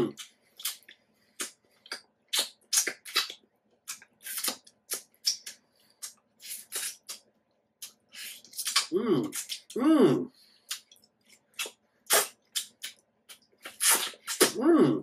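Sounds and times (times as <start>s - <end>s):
mouth eating smacks and clicks: 0.0s - 9.8s, 10.7s - 14.6s.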